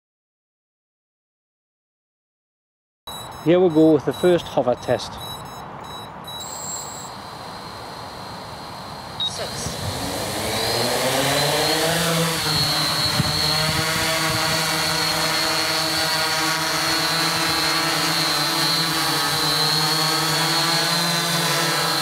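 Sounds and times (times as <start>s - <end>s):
drone motors and propellers: 3.1s - 22.0s
thin high whine: 3.1s - 22.0s.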